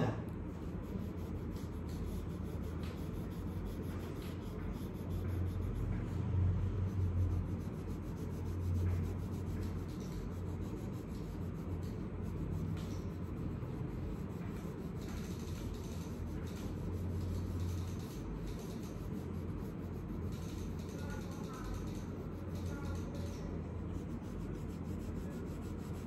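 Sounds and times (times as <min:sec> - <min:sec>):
steady low hum: 0:00.0 - 0:26.0
pencil scratching on paper: 0:00.4 - 0:26.0.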